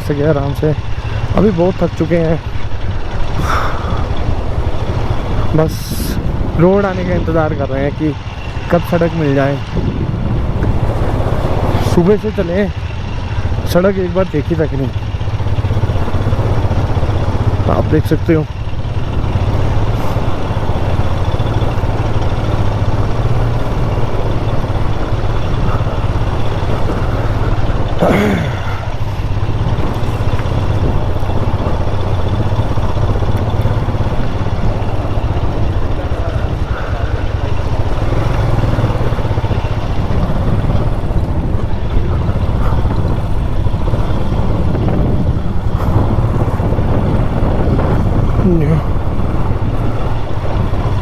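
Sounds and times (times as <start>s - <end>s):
motorcycle engine running: 0.0s - 51.0s
road and wind noise: 0.0s - 51.0s.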